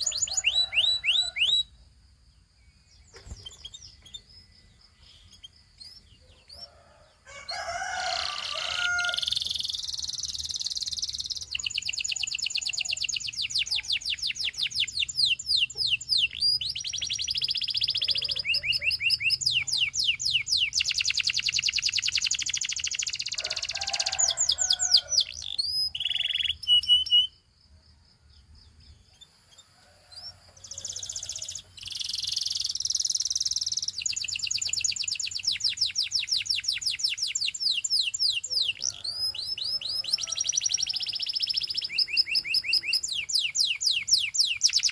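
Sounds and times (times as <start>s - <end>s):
canary singing trills: 0.0s - 1.8s, 2.4s - 27.5s, 28.4s - 44.9s.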